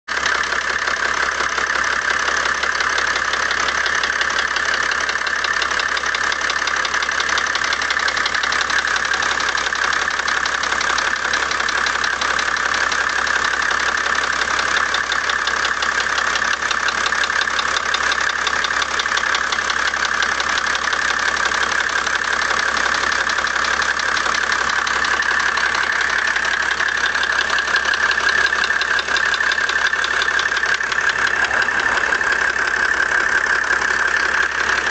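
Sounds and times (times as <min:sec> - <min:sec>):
diesel engine idling: 0:00.1 - 0:34.9
rapid engine ticking: 0:00.1 - 0:34.9.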